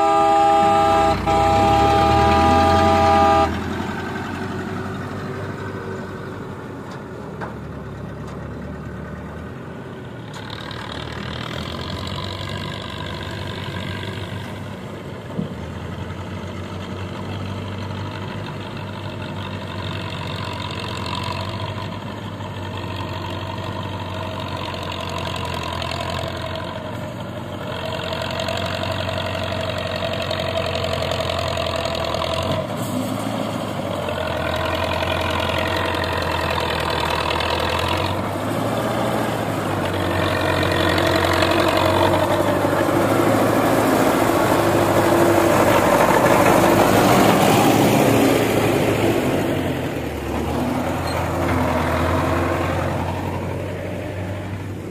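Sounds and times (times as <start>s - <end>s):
tractor diesel engine passing: 0.0s - 54.9s.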